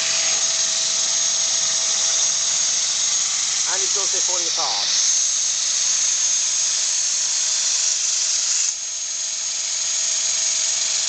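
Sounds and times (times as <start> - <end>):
engine whine and hiss: 0.0 - 11.0.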